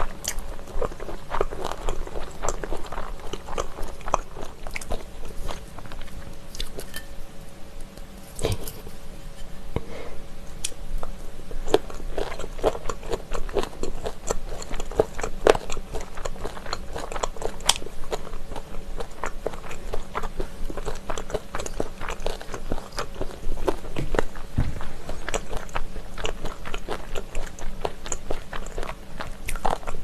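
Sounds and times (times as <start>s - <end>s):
crunchy chewing: 0.0s - 7.0s, 7.9s - 30.0s.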